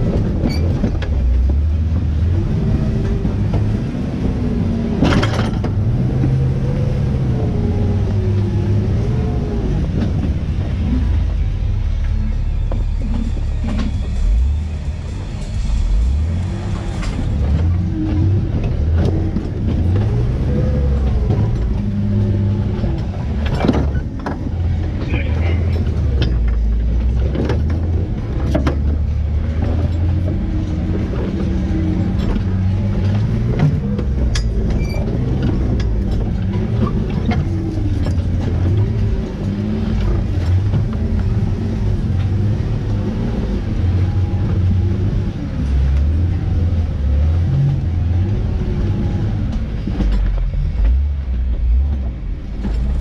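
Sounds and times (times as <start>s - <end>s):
engine droning and revving: 0.0s - 53.0s.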